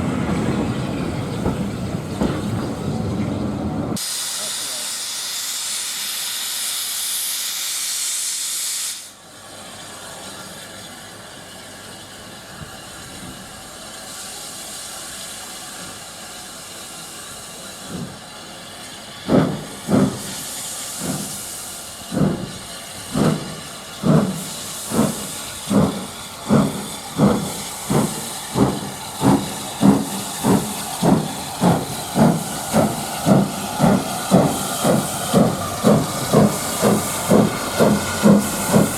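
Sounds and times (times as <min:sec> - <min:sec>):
steam locomotive exhaust chuffs: 0:00.0 - 0:38.9
hiss of escaping steam: 0:02.3 - 0:09.3, 0:12.6 - 0:38.9.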